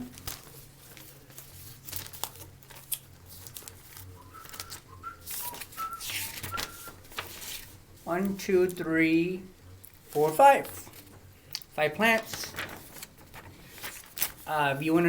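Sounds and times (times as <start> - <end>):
packaging crinkling and rustling: 0.0 - 8.4, 9.8 - 14.8
steady low hum: 0.0 - 15.0.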